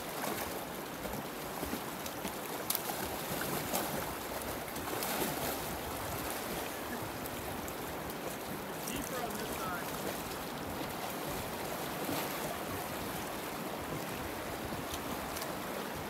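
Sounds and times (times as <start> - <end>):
river water rushing: 0.0 - 16.0
water splashing from wading: 0.0 - 16.0.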